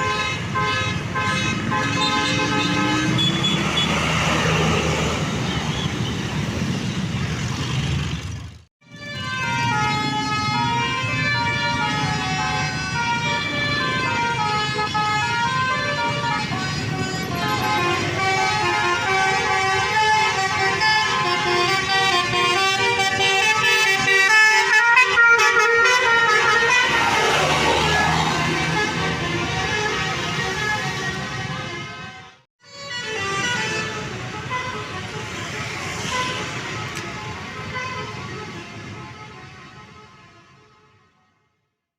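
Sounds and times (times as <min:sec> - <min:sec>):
multi-tone bus horn tune: 0:00.0 - 0:06.2, 0:08.8 - 0:41.8.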